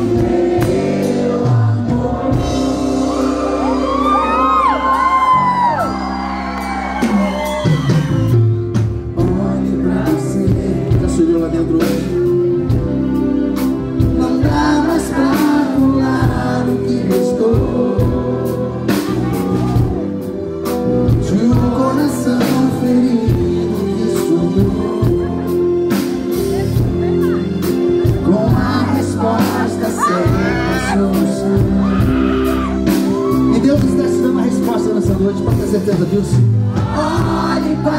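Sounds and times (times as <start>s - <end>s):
man singing lead: 0.0s - 5.8s, 9.1s - 12.9s, 14.0s - 37.9s
drums: 0.0s - 37.9s
keyboard: 0.0s - 37.9s.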